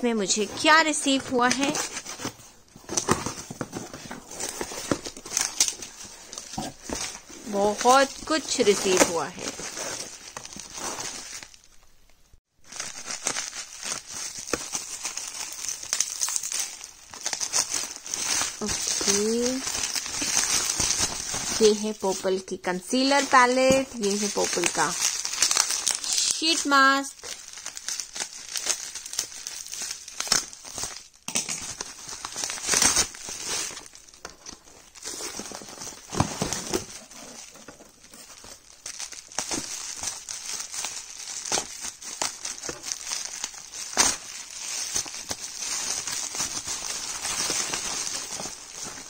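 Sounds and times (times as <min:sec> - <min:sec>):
bubble wrap crinkling: 0:00.0 - 0:49.0.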